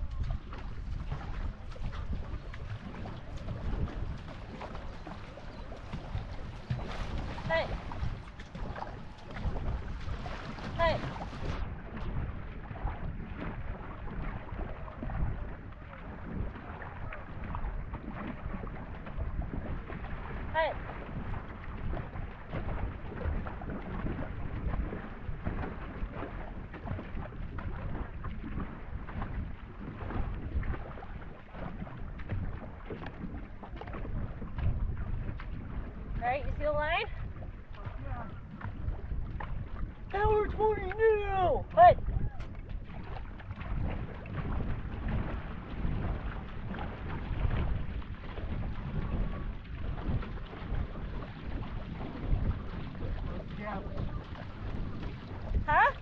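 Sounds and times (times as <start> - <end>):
paddle strokes dipping in water: 0.0 - 56.0
water rushing along canoe hull: 0.0 - 56.0
wind buffeting microphone: 0.0 - 56.0.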